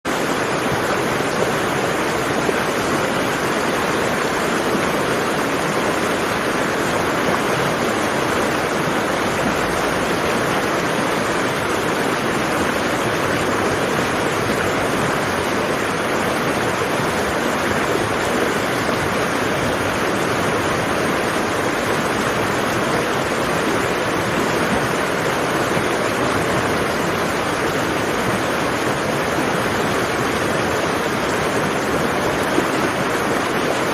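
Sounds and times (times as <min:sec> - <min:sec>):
waterfall roaring: 0:00.1 - 0:33.9.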